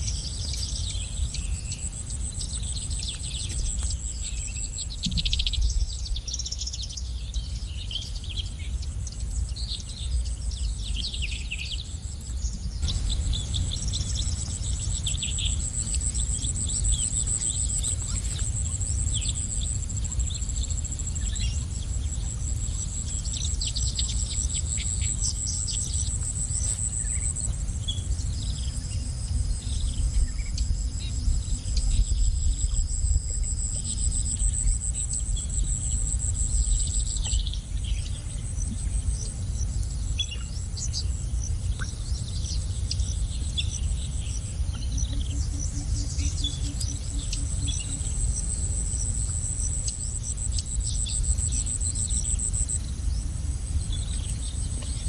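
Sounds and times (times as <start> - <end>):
high-pitched insect trill: 0.0 - 55.0
low steady rumble: 0.0 - 55.0
small birds chirping: 0.0 - 55.0.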